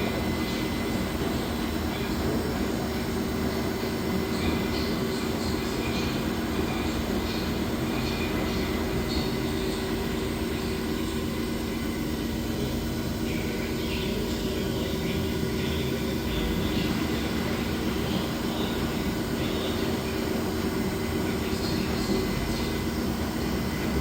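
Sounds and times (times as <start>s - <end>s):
laundry machine motor hum: 0.0s - 24.0s.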